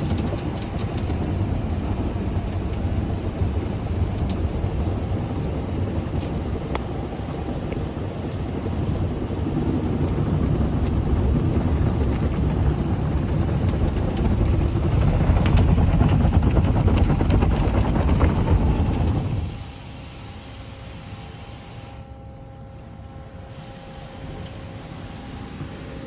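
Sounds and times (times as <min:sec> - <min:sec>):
car wash machinery rushing: 0:00.0 - 0:22.1
steady hum: 0:00.0 - 0:26.0.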